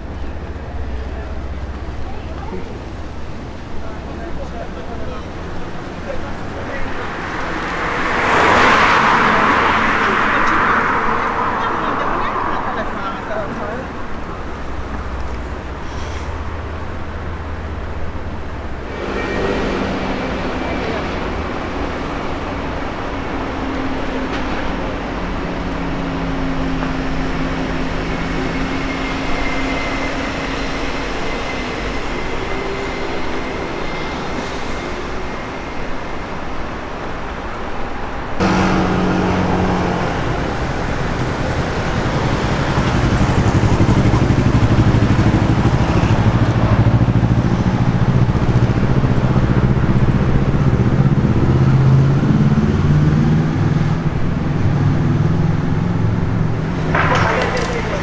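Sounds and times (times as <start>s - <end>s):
road traffic hum: 0.0s - 58.0s
vehicles passing: 0.0s - 58.0s.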